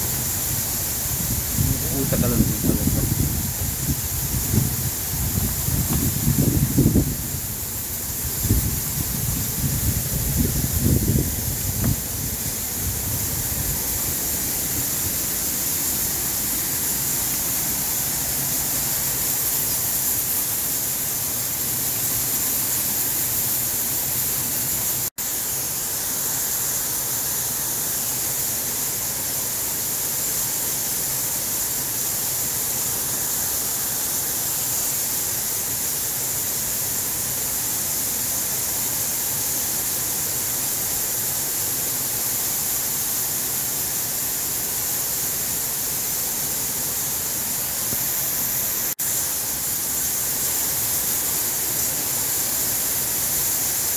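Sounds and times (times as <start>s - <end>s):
steady high-pitched hiss: 0.0s - 53.9s.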